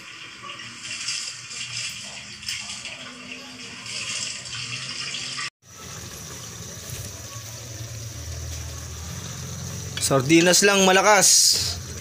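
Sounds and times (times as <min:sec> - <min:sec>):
gas stove burners hissing: 0:00.0 - 0:12.0.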